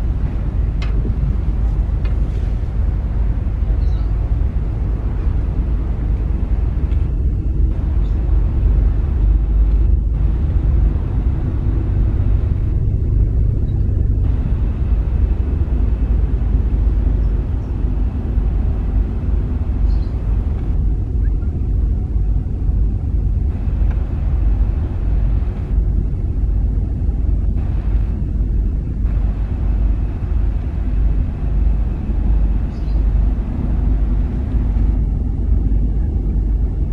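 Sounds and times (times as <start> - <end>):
ferry engines rumbling: 0.0 - 36.9.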